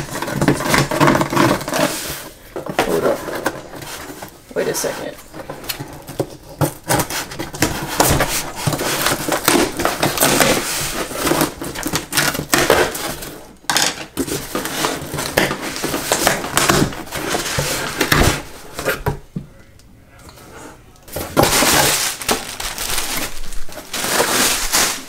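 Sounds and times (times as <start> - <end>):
cardboard box tearing: 0.0 - 4.2, 5.6 - 13.4, 14.2 - 19.1, 21.1 - 25.0
cardboard and paper crinkling: 0.0 - 19.2, 20.4 - 25.0.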